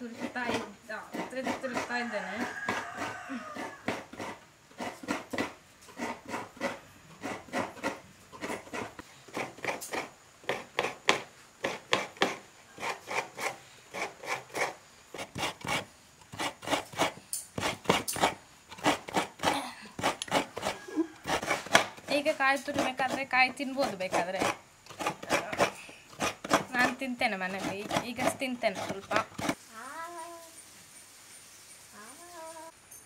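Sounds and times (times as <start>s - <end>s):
coconut grater rasping: 0.0s - 29.6s.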